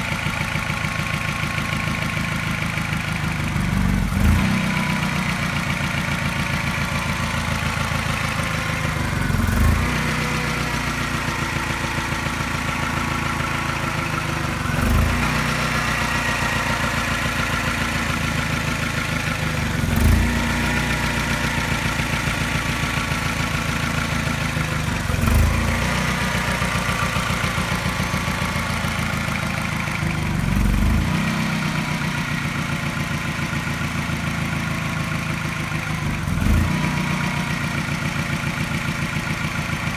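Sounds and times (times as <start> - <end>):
car engine idling: 0.0 - 39.9
engine tapping: 0.0 - 39.9.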